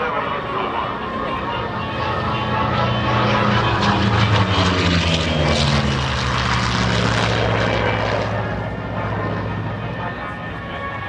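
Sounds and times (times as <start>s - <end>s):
propeller aircraft engine passing: 0.0s - 11.0s.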